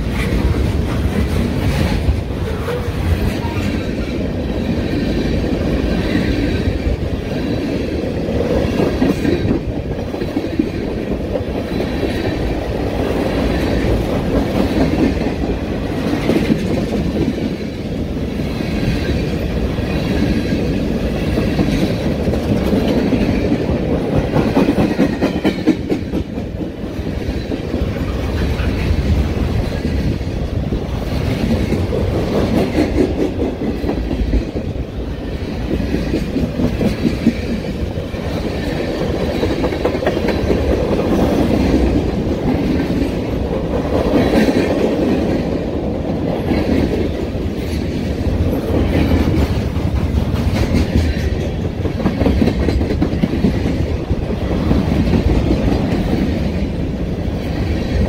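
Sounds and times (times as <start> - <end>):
freight train wheels clattering on rails: 0.0 - 58.0.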